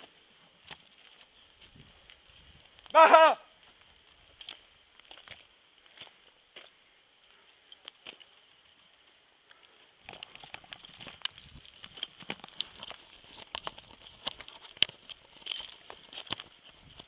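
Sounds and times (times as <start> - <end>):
footsteps on gritty ground: 0.0 - 17.0.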